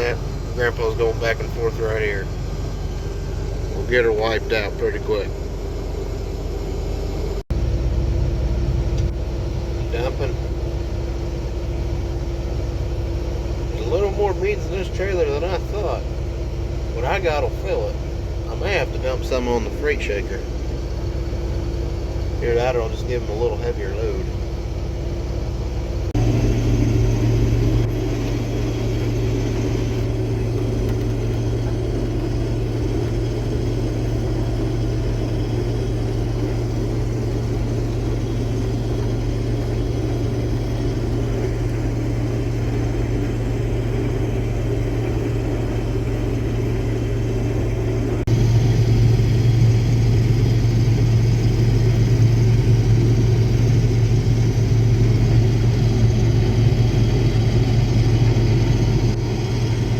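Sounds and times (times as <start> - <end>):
combine diesel engine humming: 0.0 - 59.9.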